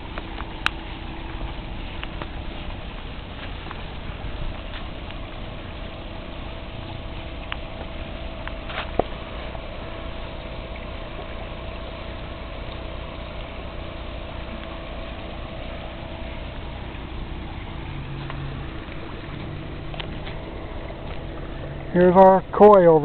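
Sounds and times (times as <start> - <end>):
steady hum: 0.0 - 23.0
waterfall running over liner: 0.0 - 23.0.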